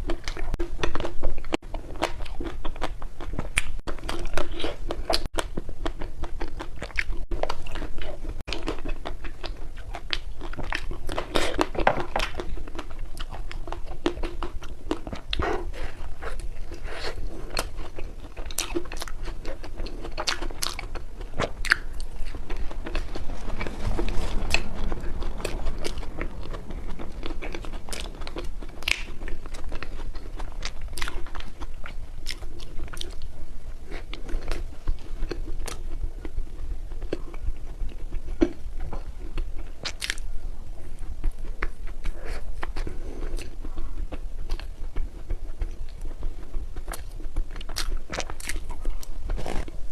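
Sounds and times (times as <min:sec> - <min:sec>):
chewing ice cream: 0:00.0 - 0:49.8.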